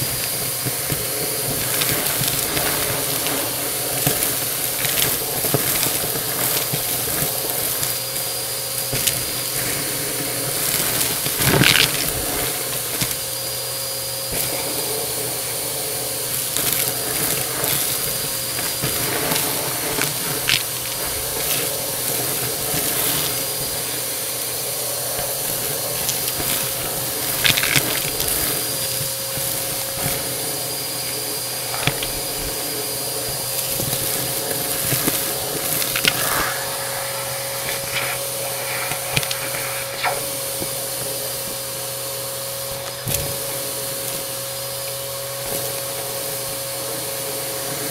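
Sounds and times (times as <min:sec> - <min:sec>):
debris clicking in vacuum: 0:00.0 - 0:13.6, 0:14.2 - 0:41.9
vacuum cleaner running: 0:00.0 - 0:47.9.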